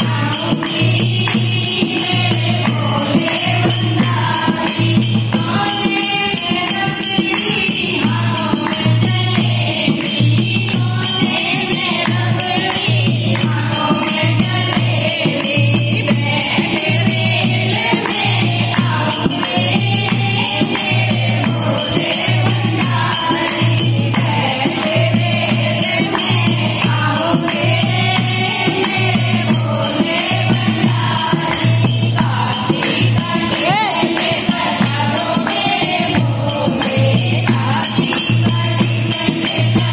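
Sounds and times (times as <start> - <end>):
women singing along: 0.0 - 39.9.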